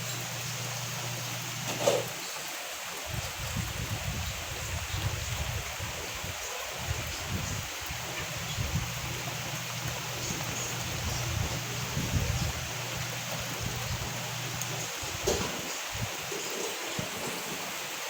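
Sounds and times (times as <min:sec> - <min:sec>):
rain hissing: 0:00.0 - 0:18.0
wind gusts on microphone: 0:03.0 - 0:17.7.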